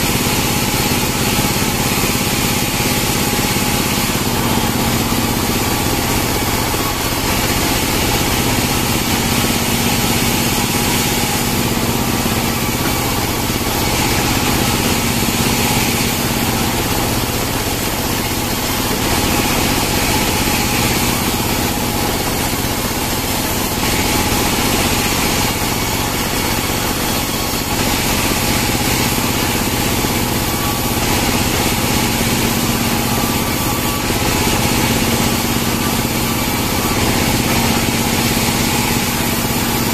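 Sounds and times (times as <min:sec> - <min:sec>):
band saw cutting logs: 0:00.0 - 0:39.9.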